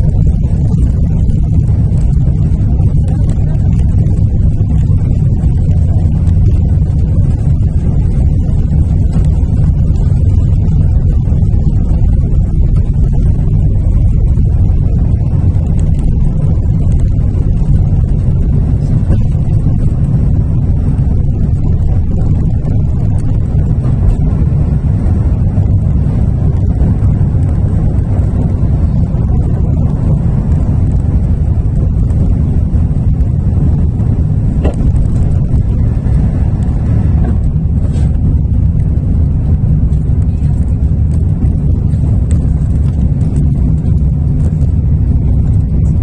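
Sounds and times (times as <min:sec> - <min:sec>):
aircraft taking off rumble: 0:00.0 - 0:46.0.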